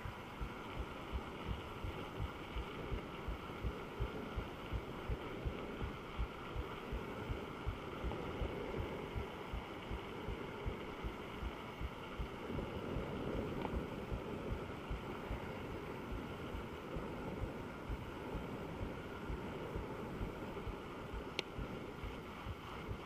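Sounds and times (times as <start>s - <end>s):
bike tyre and wind noise: 0.0s - 23.0s.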